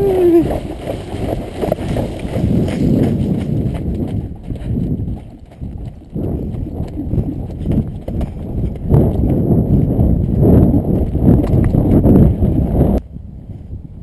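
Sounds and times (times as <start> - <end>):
horse hoofbeats on dry ground: 0.0 - 13.0.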